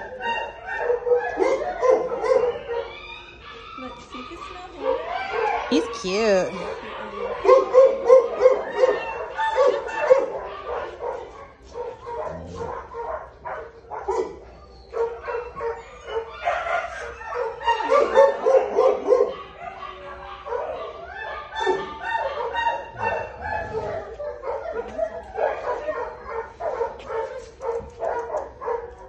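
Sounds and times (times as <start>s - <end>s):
dog barking and yipping: 0.0s - 29.0s.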